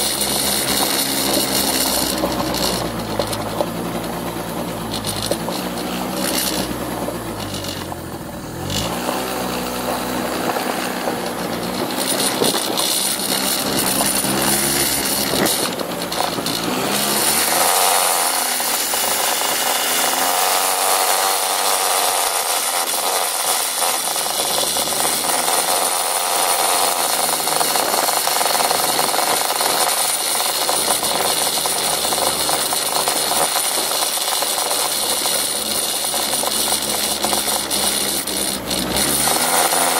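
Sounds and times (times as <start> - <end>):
scooter engine running: 0.0 - 39.9
wind and road noise: 0.0 - 39.9.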